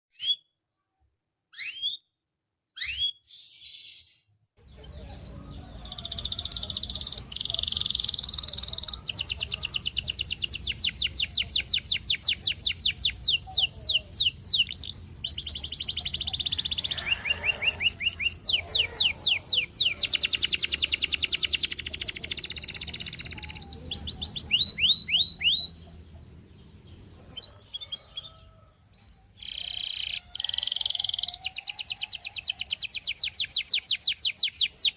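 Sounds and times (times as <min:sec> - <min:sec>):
canary singing: 0:00.1 - 0:00.5, 0:01.5 - 0:02.1, 0:02.8 - 0:34.9.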